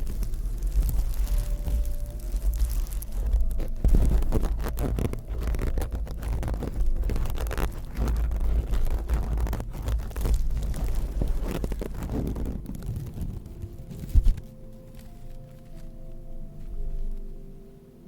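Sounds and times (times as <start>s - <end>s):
scratching and rustling at microphone: 0.0s - 17.5s
low rumble of handling noise: 0.0s - 18.0s.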